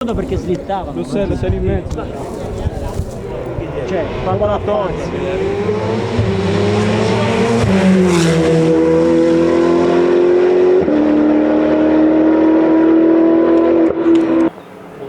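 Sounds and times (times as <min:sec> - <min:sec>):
race car engine at full throttle: 0:01.2 - 0:15.0.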